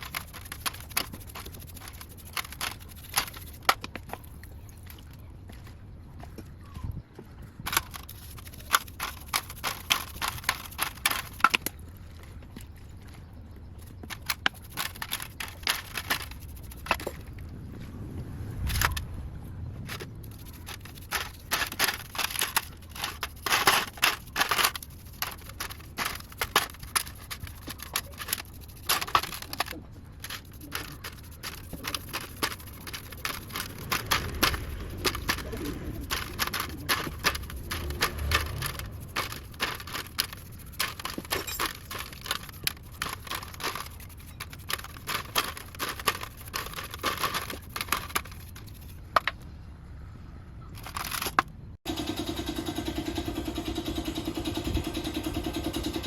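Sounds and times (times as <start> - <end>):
small parts and tools clicking: 0.0 - 5.7, 7.6 - 13.2, 13.8 - 17.5, 18.6 - 19.1, 19.8 - 49.4, 50.8 - 56.0.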